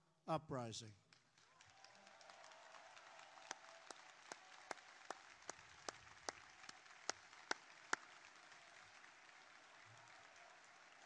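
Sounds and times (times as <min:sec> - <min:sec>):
crowd applauding: 0:01.1 - 0:11.0
loud sharp claps near microphone: 0:01.1 - 0:11.0.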